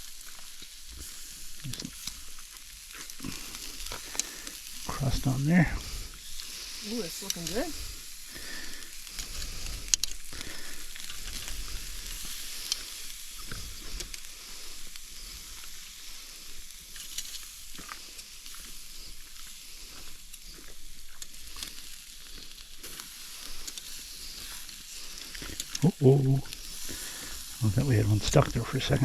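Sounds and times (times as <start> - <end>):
fire crackles and pops: 0.0 - 29.0
steak sizzling over fire: 0.0 - 29.0.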